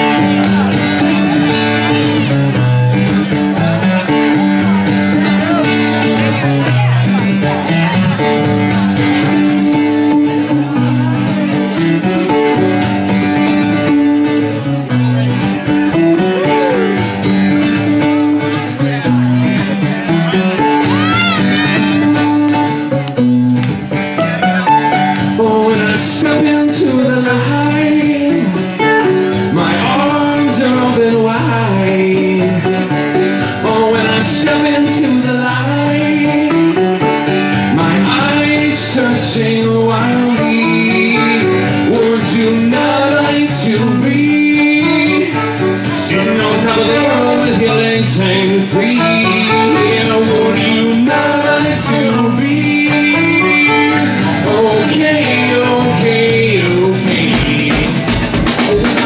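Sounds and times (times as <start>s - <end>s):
acoustic guitar: 0.0s - 59.0s
live rock band playing: 0.0s - 59.0s.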